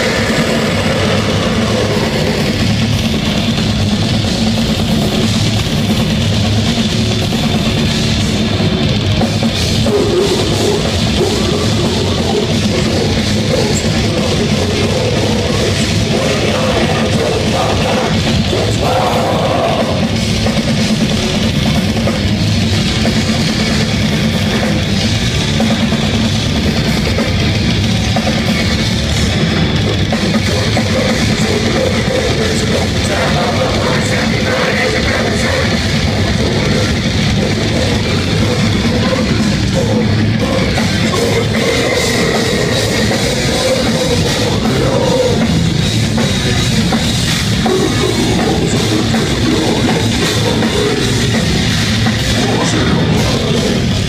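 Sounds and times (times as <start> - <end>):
death metal band playing: 0.0 - 54.0.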